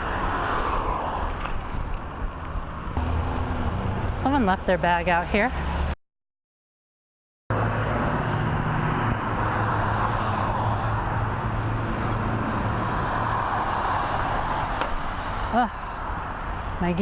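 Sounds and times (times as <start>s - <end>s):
low traffic hum: 0.0s - 6.0s, 7.5s - 17.0s.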